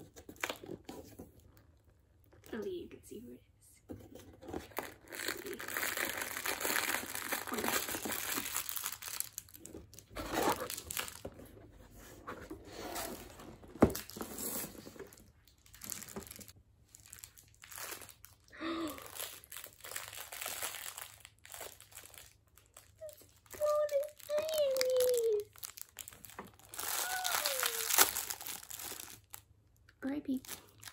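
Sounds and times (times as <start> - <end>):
cardboard and plastic rustling: 0.0 - 2.5, 3.9 - 18.5, 19.1 - 29.4.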